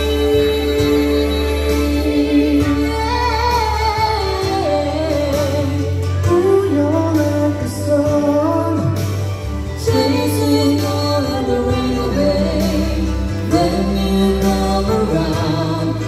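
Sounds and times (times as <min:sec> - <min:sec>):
instrumental music with bass: 0:00.0 - 0:16.0
man and woman singing duet: 0:00.0 - 0:16.0.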